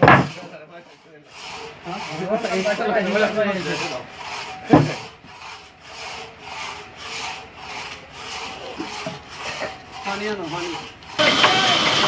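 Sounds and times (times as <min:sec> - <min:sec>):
band saw rasping: 0:00.0 - 0:12.0.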